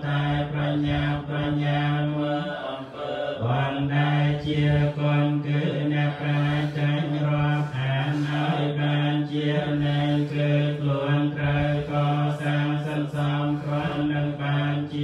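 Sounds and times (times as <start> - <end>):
monks chanting on one low pitch: 0.0 - 15.0.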